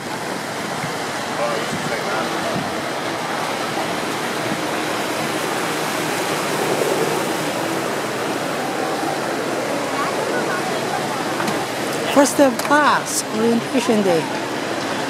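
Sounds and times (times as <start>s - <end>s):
fountain water splashing: 0.0s - 15.0s
faint crowd chatter: 1.0s - 15.0s.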